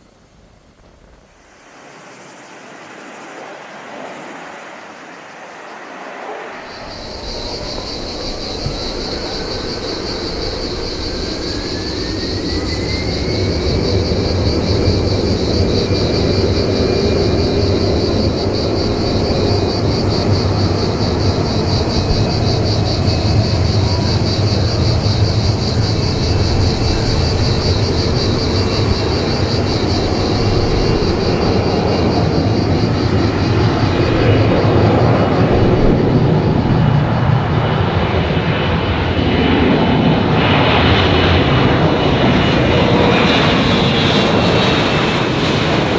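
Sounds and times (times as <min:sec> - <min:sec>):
jet engine whine: 0:00.0 - 0:45.9
jet engine rumble: 0:06.7 - 0:45.9.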